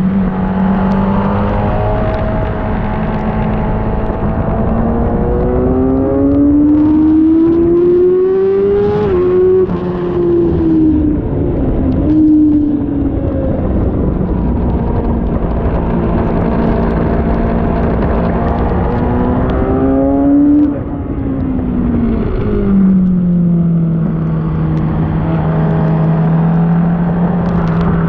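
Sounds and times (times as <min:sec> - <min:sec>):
motorcycle engine accelerating: 0:00.0 - 0:28.0
steady rushing noise: 0:00.0 - 0:28.0.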